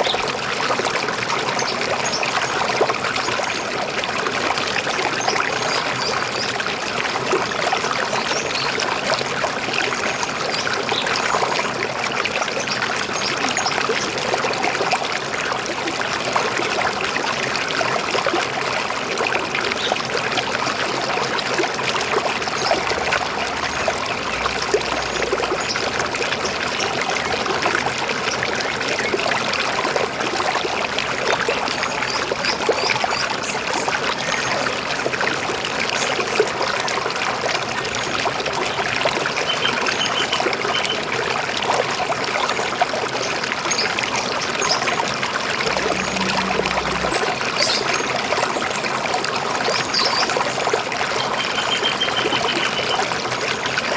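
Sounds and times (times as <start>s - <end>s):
river water babbling over rocks: 0.0s - 53.9s.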